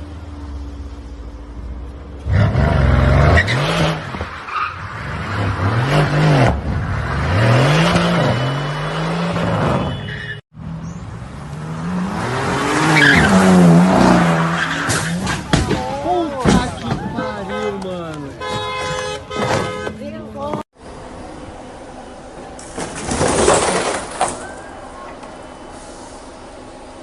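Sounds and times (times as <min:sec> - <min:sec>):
tyres skidding: 0:00.0 - 0:27.0.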